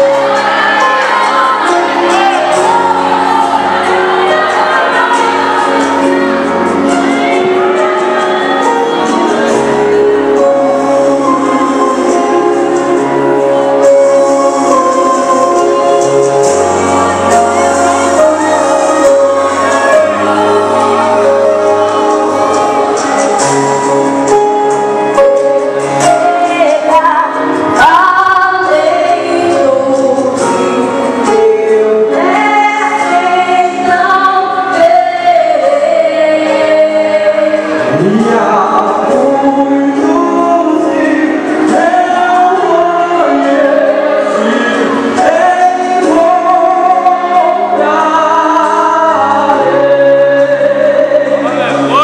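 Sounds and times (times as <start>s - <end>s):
girls choir singing a hymn: 0.0s - 52.0s.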